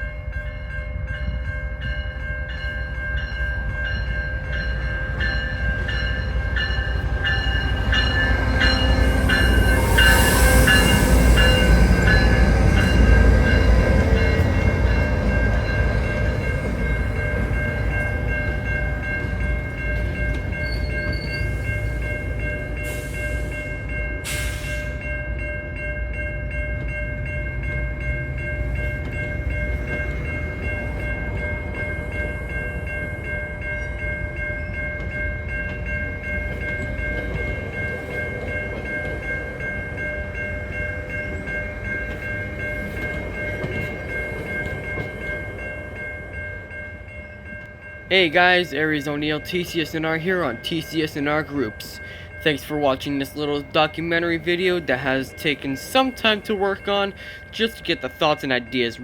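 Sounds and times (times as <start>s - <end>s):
high-pitched ringing tones: 0.0s - 59.0s
train rumbling past: 0.0s - 59.0s.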